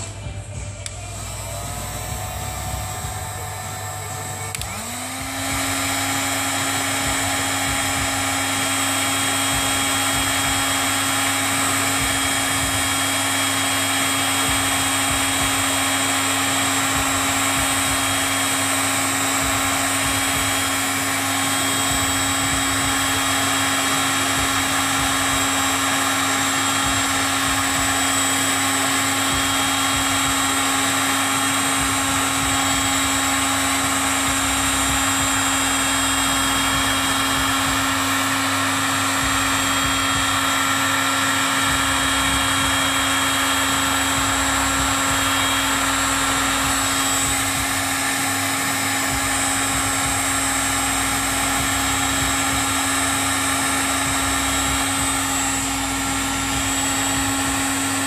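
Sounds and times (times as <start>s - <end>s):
heat gun running: 0.0s - 58.0s.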